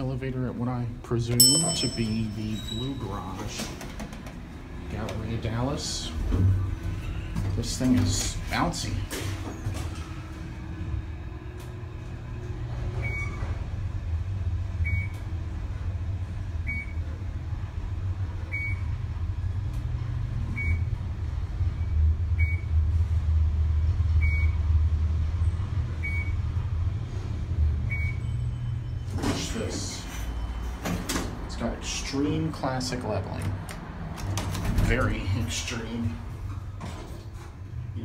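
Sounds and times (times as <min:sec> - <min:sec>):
elevator low rumble: 0:00.0 - 0:38.0.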